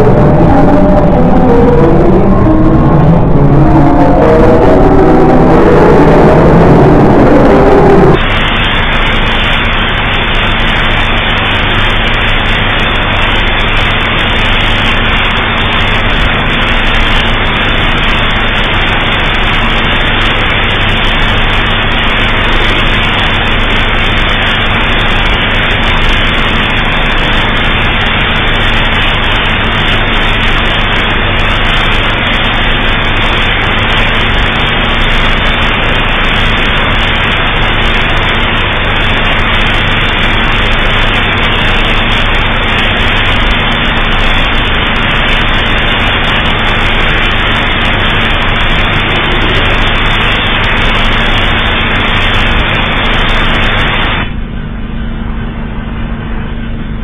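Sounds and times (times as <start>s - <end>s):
loud static-like hiss: 0.0s - 57.0s
low buzzing hum: 0.0s - 57.0s.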